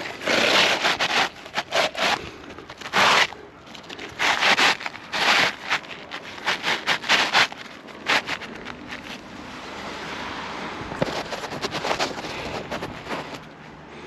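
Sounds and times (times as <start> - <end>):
sharp scrapes and clicks: 0.0 - 9.3, 11.0 - 13.6
shingles scraping and crackling: 0.0 - 9.3, 11.0 - 13.6.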